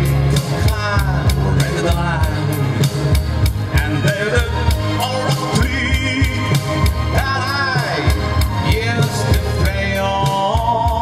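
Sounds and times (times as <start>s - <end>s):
man singing: 0.0s - 11.0s
steady drum beat: 0.0s - 11.0s.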